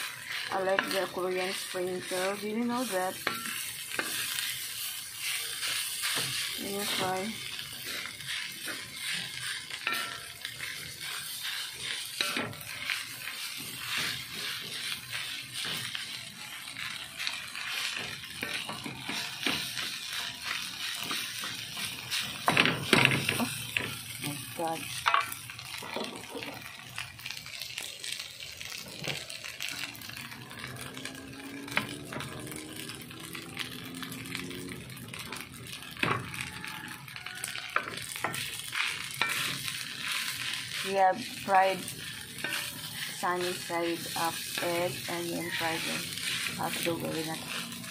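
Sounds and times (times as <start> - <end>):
spatula scraping metal wok: 0.0 - 26.6, 28.7 - 47.9
light sizzle: 0.0 - 47.9.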